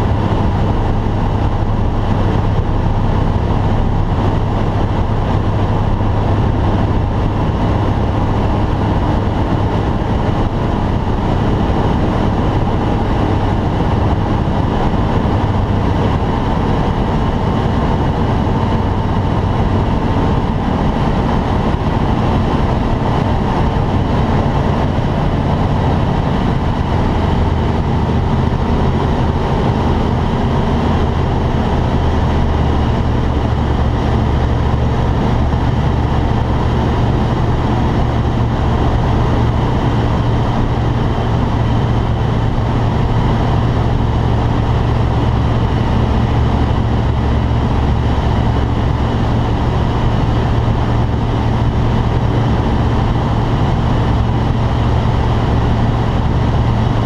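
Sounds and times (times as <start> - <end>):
light aircraft cockpit drone: 0.0 - 57.0.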